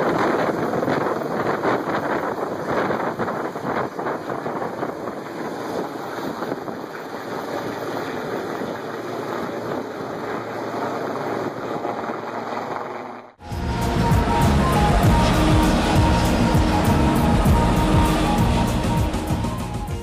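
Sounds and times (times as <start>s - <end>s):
helicopter flying overhead: 0.0s - 20.0s
wind on microphone: 0.0s - 20.0s.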